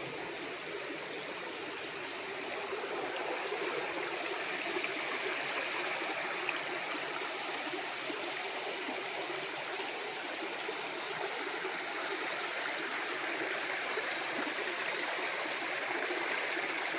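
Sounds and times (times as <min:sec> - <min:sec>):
running water flowing: 0:00.0 - 0:16.9.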